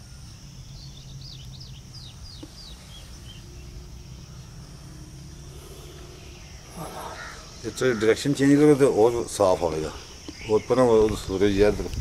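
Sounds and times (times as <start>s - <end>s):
small bird chirping: 0.0s - 12.0s
steady high hiss: 0.0s - 12.0s.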